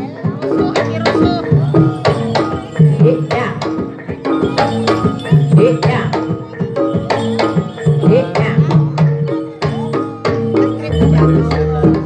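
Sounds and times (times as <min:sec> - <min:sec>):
metallophones and gongs ringing: 0:00.2 - 0:12.0.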